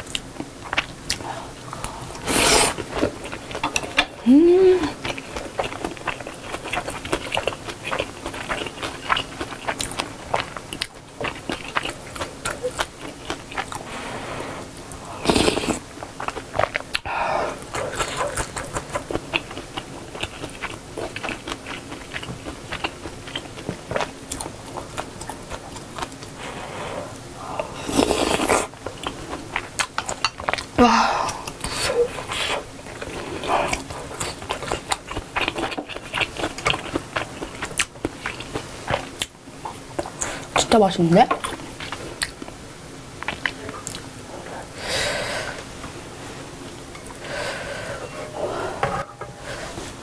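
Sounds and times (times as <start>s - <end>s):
close chewing with mouth clicks: 0.0s - 14.0s, 14.6s - 40.7s, 41.3s - 42.6s, 43.2s - 44.1s.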